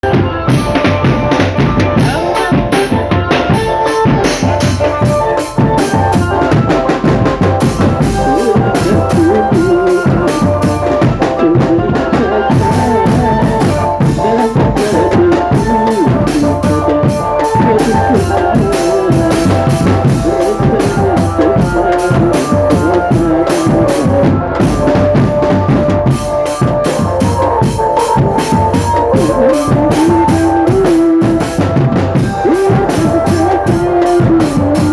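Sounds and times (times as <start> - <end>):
held melody line: 0.0 - 34.9
snare and bass drums beat: 0.0 - 34.9.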